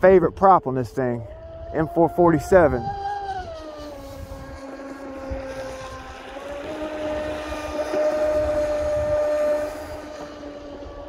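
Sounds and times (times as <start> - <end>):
rc boat motor whining: 0.0 - 11.0.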